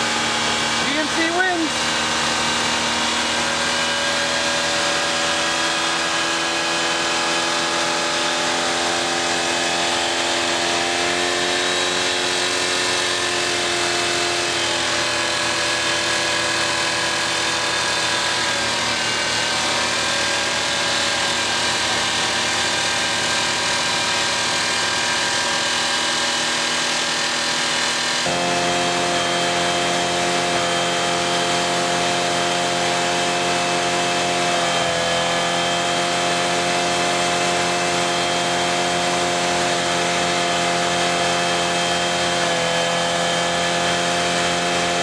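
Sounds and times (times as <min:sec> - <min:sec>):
truck engine at high revs: 0:00.0 - 0:45.0.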